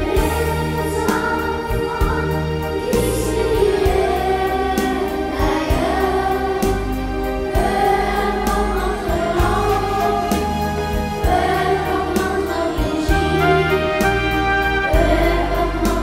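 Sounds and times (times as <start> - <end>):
backing track with beat: 0.0 - 16.0
children singing together: 0.0 - 16.0.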